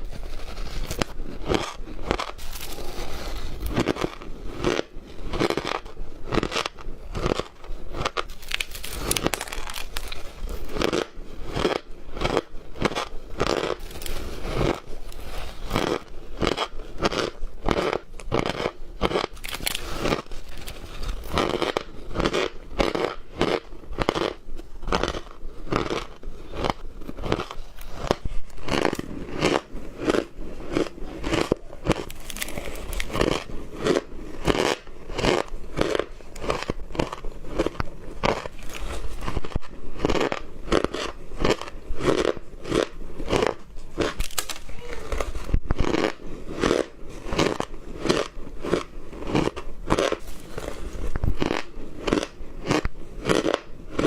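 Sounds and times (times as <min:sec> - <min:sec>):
ice being chewed: 0:00.1 - 0:54.0.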